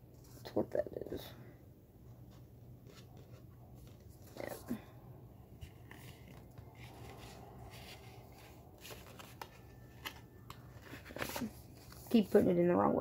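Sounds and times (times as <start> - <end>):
paper booklet rustling: 2.1 - 12.7.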